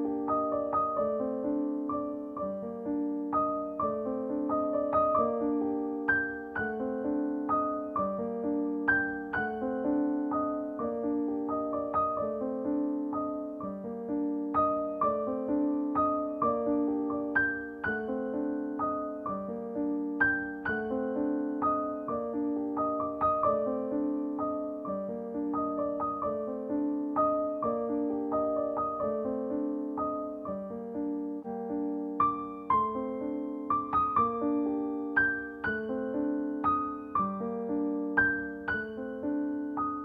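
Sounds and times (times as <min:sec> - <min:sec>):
piano notes and chords: 0:00.0 - 0:40.0.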